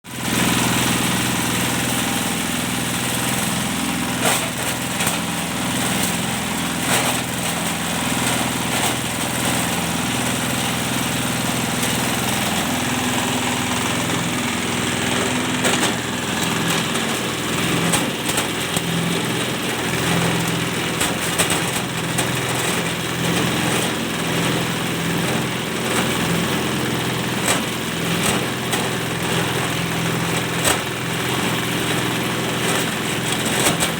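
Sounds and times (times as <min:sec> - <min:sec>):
shredder motor drone: 0:00.0 - 0:33.9.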